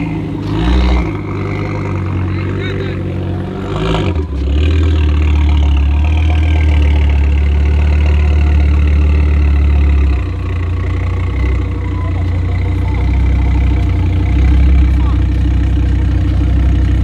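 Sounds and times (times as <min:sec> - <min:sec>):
car engine idling with deep drone: 0:00.0 - 0:17.0.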